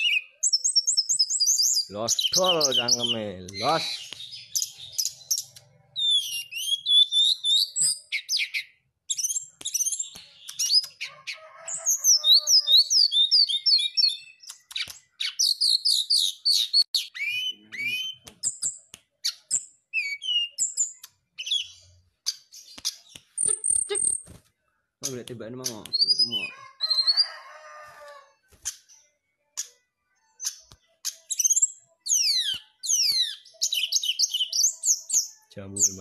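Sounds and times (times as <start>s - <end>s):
bird singing chirps and whistles: 0.0s - 11.1s, 11.7s - 24.2s, 25.0s - 27.4s, 30.4s - 36.0s.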